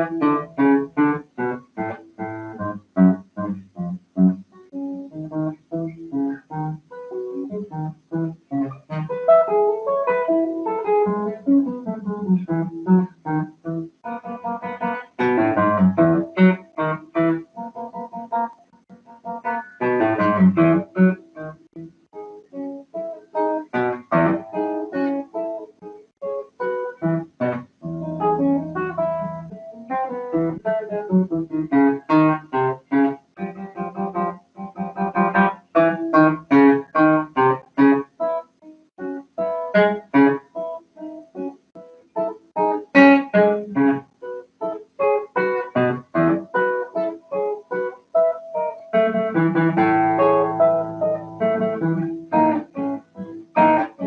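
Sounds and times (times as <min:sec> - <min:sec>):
fingerstyle classical guitar: 0:00.0 - 0:54.0.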